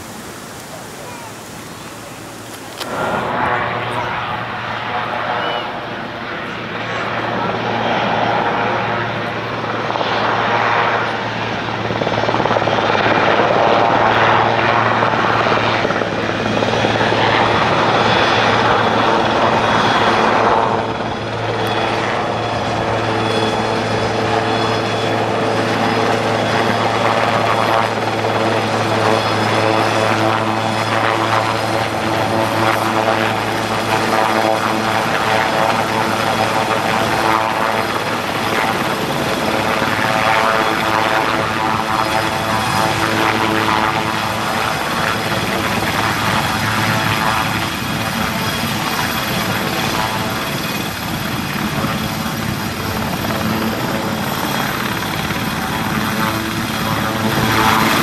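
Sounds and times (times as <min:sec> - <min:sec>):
helicopter rotor thrum: 0:00.0 - 0:58.0.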